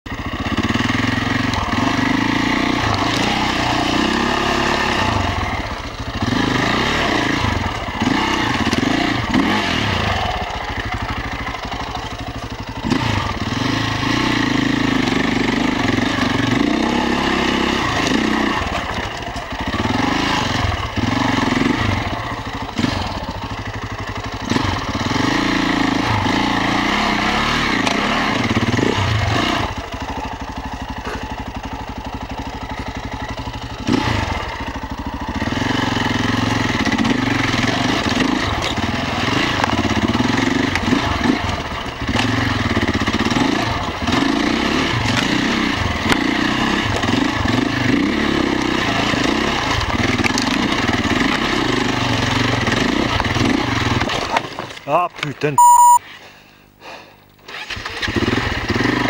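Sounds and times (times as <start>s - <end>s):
motorcycle engine revving: 0.1s - 54.8s, 57.4s - 59.0s.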